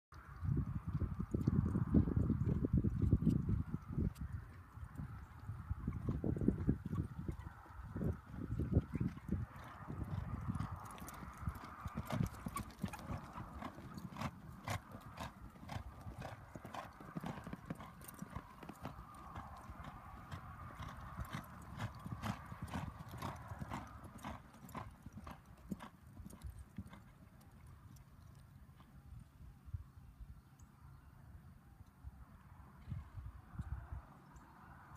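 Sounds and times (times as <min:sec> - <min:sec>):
hoofbeats on sandy dirt: 0:00.2 - 0:29.4.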